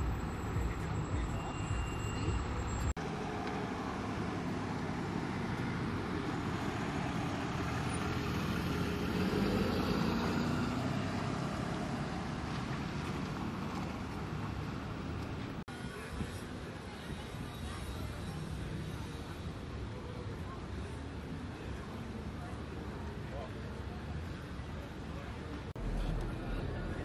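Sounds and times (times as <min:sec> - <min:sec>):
passing cars road noise: 0:00.0 - 0:16.2, 0:18.4 - 0:27.0.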